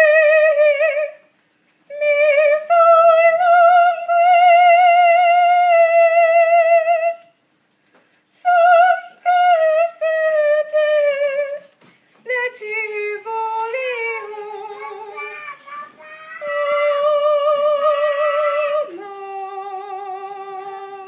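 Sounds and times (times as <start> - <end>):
woman singing with vibrato: 0.0 - 7.4, 8.3 - 15.4, 16.4 - 21.0.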